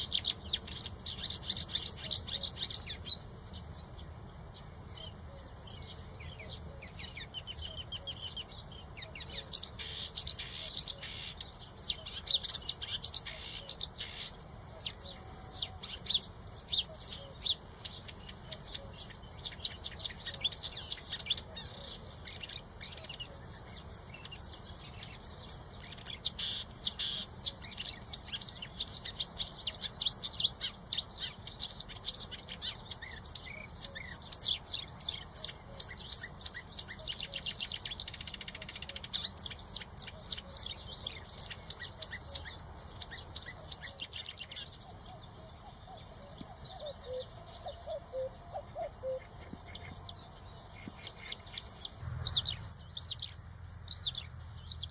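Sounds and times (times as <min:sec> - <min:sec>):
small songbirds chirping: 0:00.0 - 0:54.9.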